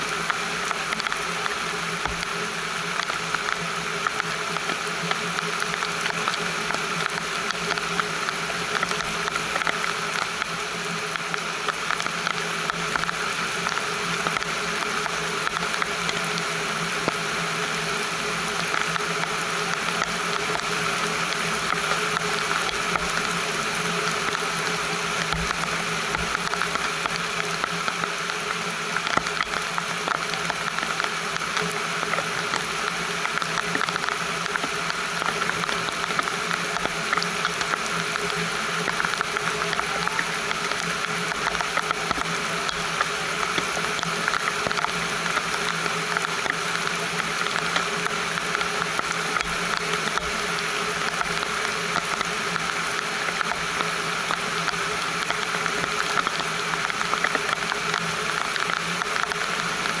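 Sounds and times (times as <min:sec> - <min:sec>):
rain pattering on a roof: 0:00.0 - 1:00.0.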